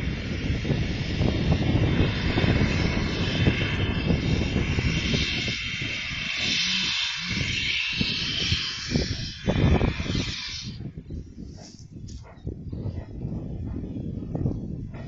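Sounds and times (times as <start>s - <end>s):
railway engines droning: 0.0s - 15.0s
wind buffeting microphone: 0.0s - 15.0s.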